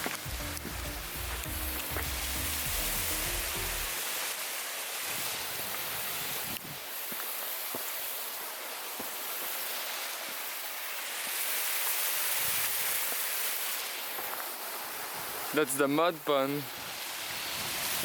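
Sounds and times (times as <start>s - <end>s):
river rushing: 0.0s - 15.9s.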